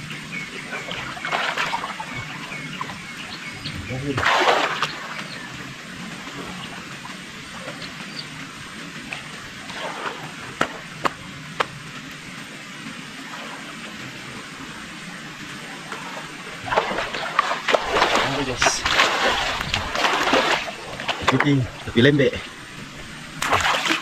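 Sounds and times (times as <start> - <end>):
pond water stirring: 0.0 - 24.0
steady outdoor hiss: 0.0 - 24.0.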